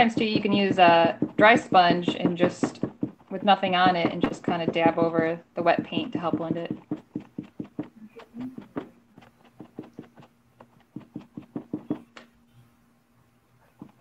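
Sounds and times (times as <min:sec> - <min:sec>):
sponge tapping on canvas: 0:00.0 - 0:12.2, 0:13.8 - 0:14.0.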